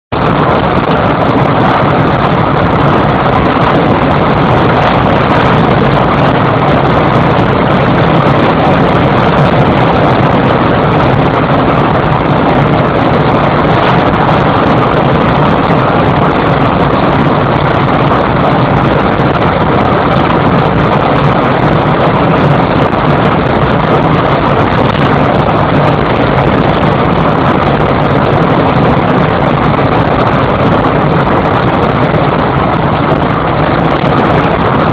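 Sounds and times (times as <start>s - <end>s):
car engine and tyre noise: 0.0s - 34.9s.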